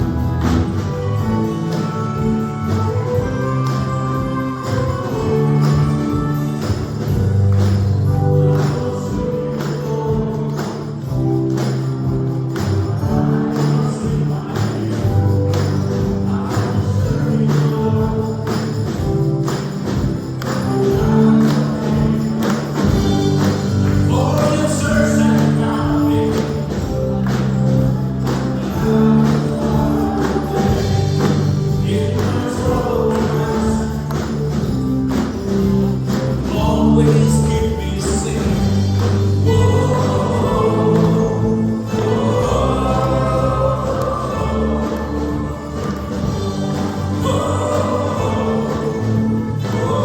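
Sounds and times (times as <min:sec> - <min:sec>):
tambourine: 0:00.0 - 0:50.0
upbeat worship music: 0:00.0 - 0:50.0
voices singing: 0:00.0 - 0:50.0.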